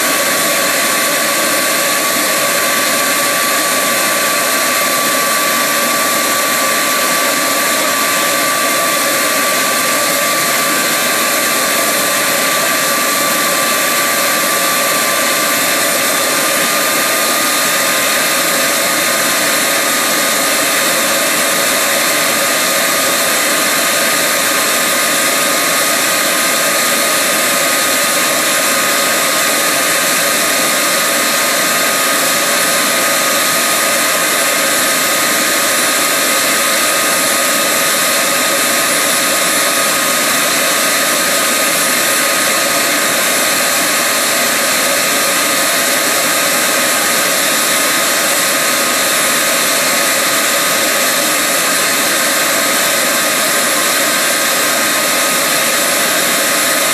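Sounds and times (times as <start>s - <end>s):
high turbine whine: 0.0s - 56.9s
jet engine roaring: 0.0s - 56.9s.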